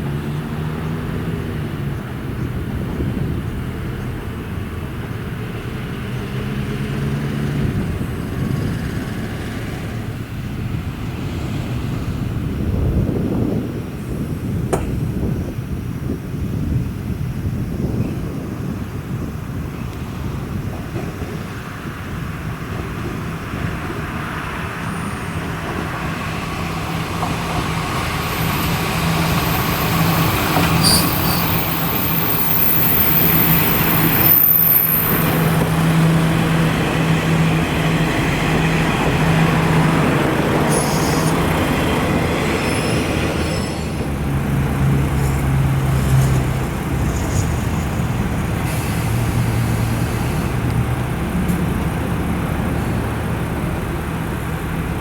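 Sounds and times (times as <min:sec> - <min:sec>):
bus engine pulling away: 0:00.0 - 0:55.0
diesel railcar engine hum: 0:00.0 - 0:55.0.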